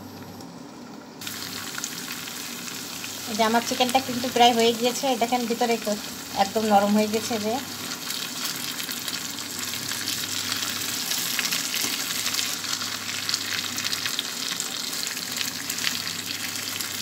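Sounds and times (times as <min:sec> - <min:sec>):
chicken frying in hot oil: 0:01.2 - 0:17.0.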